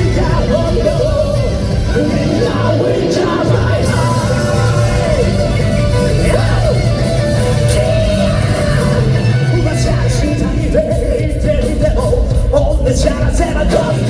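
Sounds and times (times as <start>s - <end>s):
live rock band playing: 0.0s - 14.0s
person singing lead vocals: 0.0s - 14.0s.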